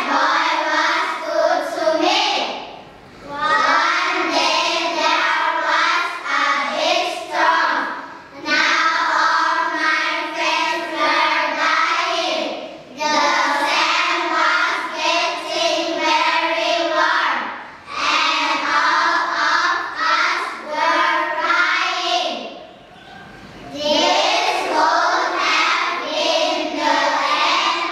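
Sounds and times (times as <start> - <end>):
children's choir singing: 0.0 - 27.9.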